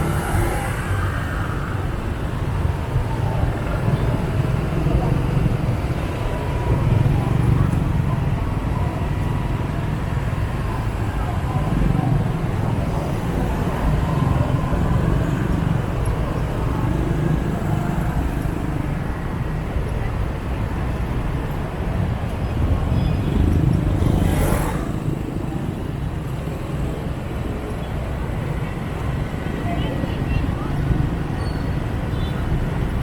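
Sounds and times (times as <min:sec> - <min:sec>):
road noise: 0:00.0 - 0:33.0
scooter engines rumbling: 0:00.0 - 0:33.0.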